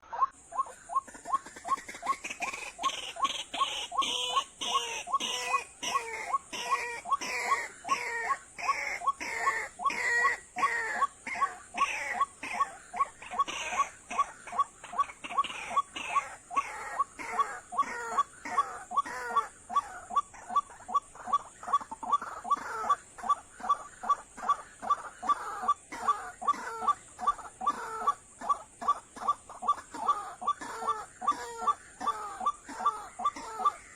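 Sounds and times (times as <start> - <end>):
faint high-pitched whine: 0.0 - 33.9
waterhens calling: 0.0 - 33.9.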